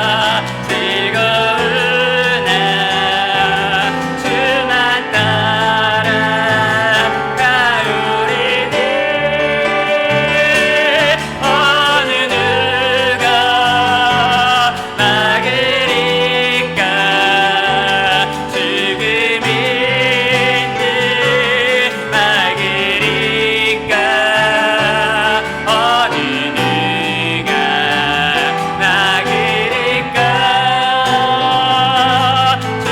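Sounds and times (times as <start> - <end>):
bass: 0.0 - 32.9
piano: 0.0 - 32.9.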